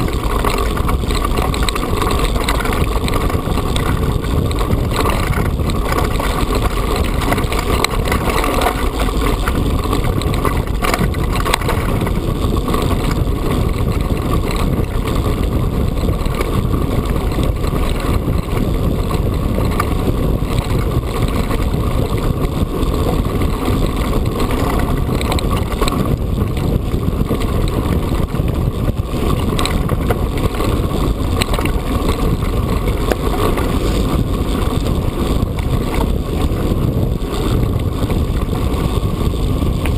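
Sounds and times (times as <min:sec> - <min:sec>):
bike tyres rumbling over stones: 0:00.0 - 0:39.9
wind on microphone: 0:00.0 - 0:39.9.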